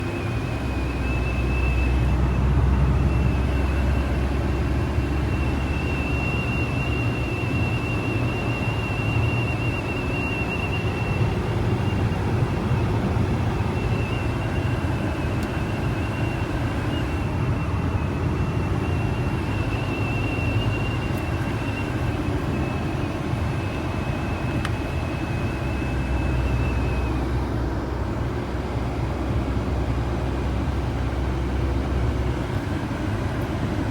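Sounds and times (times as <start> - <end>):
high air conditioner whistle: 0.0 - 28.0
car engine rumble: 0.0 - 33.9.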